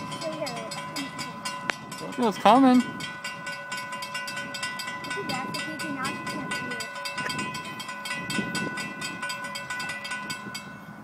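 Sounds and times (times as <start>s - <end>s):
railroad crossing bell ringing: 0.0s - 11.0s.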